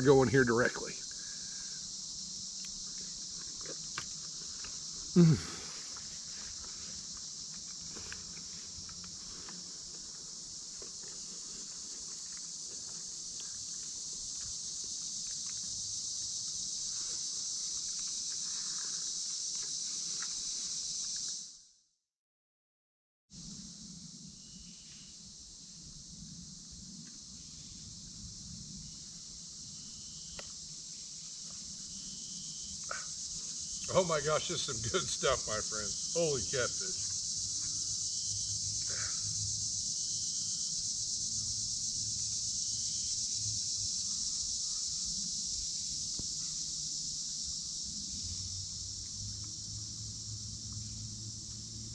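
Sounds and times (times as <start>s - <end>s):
crickets chirping: 0.0s - 21.7s, 23.3s - 51.9s.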